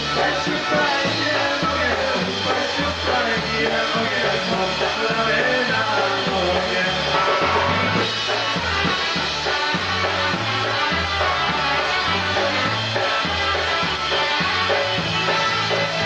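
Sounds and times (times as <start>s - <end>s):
bass line: 0.0s - 16.0s
polka band playing: 0.0s - 16.0s.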